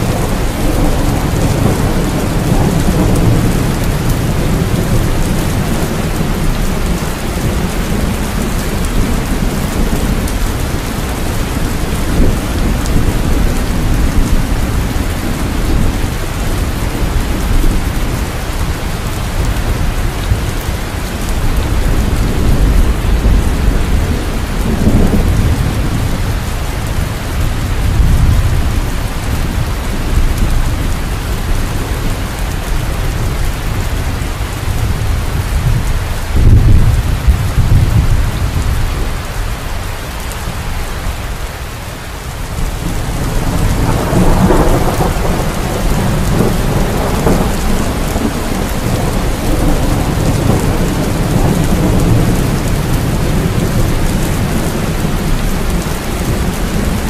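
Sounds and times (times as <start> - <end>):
thunder rumbling: 0.0 - 41.0, 42.4 - 57.0
heavy rain: 0.0 - 57.0.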